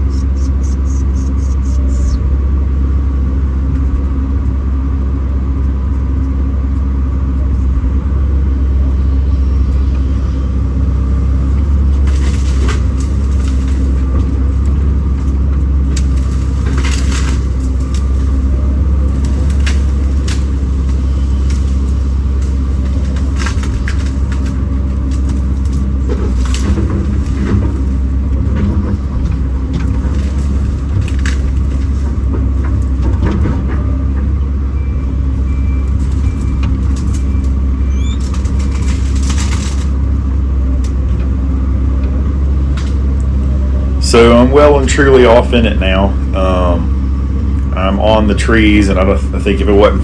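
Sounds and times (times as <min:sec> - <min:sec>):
diesel engine humming: 0:00.0 - 0:50.0.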